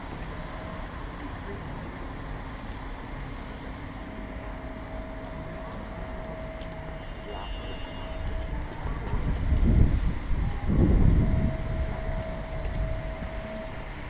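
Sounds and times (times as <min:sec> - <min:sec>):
low street rumble: 0:00.0 - 0:14.0
thin steady hum: 0:00.0 - 0:14.0.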